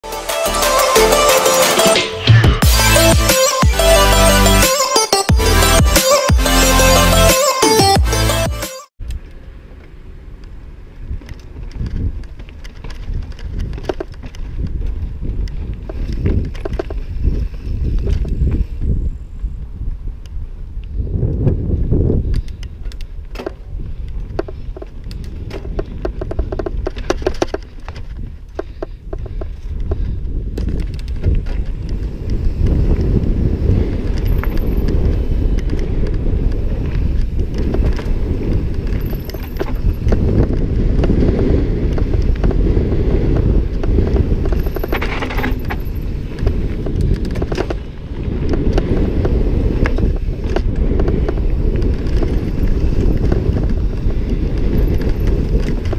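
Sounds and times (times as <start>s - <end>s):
tyre noise on dirt: 9.0s - 55.9s
wind rumbling on microphone: 9.0s - 55.9s
bike chain and frame rattling: 9.2s - 55.9s.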